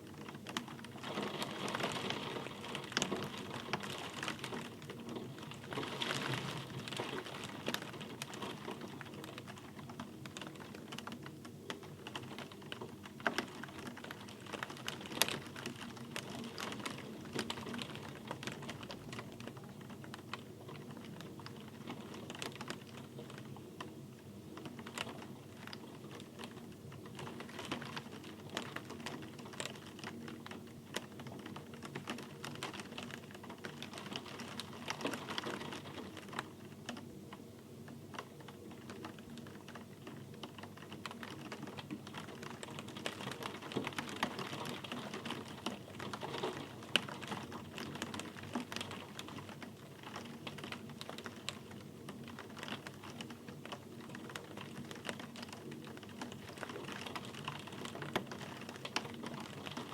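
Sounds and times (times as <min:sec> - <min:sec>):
raindrops hitting hard surface: 0:00.0 - 0:59.9
steady rain hiss: 0:00.0 - 0:59.9.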